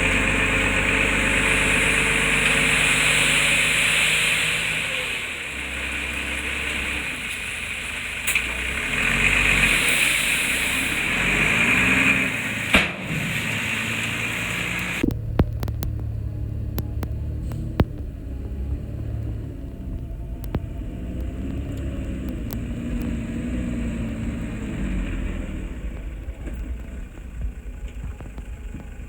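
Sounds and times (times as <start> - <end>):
diesel engine of earthmoving machinery: 0.0 - 29.0.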